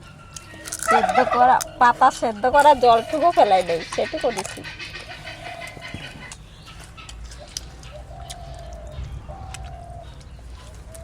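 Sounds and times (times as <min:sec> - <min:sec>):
hen calling: 0:00.0 - 0:11.0.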